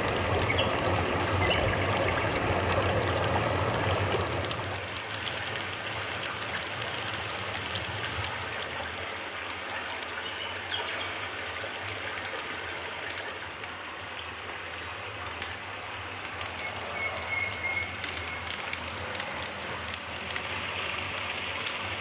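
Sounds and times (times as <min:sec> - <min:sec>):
rushing water: 0:00.0 - 0:22.0
small crackles and pops: 0:00.0 - 0:22.0.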